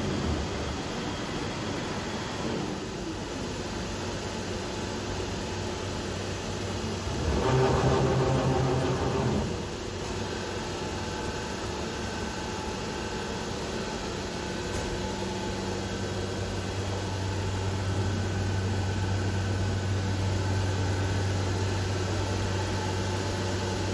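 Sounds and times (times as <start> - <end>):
cnc router idling hum: 0.0 - 23.9.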